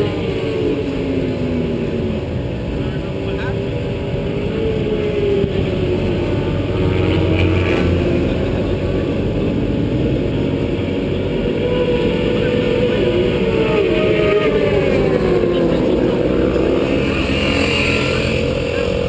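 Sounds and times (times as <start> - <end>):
car engine running hard: 0.0 - 19.0
wind and road noise: 0.0 - 19.0.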